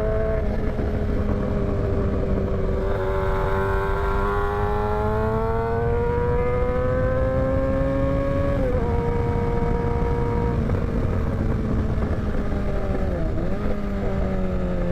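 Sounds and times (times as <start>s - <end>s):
motorcycle engine running: 0.0s - 14.9s
wind and road noise: 0.0s - 14.9s.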